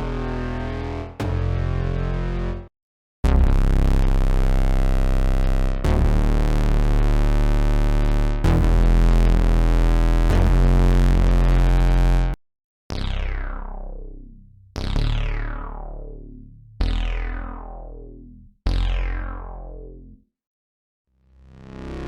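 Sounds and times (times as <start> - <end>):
deep synthesizer bass notes: 0.0 - 20.2
synth bass with filter sweep: 0.0 - 20.2.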